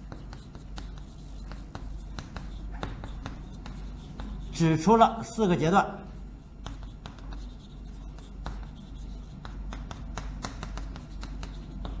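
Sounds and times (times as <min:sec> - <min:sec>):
chalk scratching on blackboard: 0:00.0 - 0:12.0.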